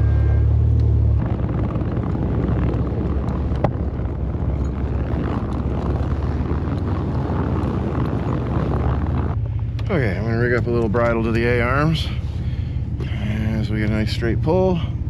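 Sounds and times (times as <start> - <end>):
wind buffeting microphone: 0.0 - 14.7
vehicle engine rumbling: 0.0 - 15.0.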